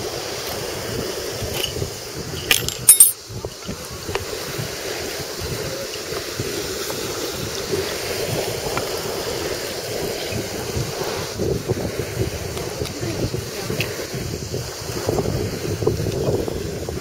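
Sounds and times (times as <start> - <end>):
steady surf: 0.0 - 17.0
wind buffeting microphone: 0.0 - 17.0.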